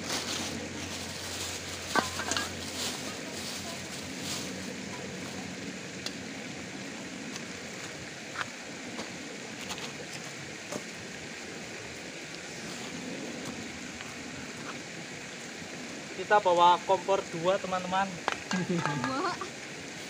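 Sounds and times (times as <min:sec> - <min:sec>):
river water flowing: 0:00.0 - 0:20.0.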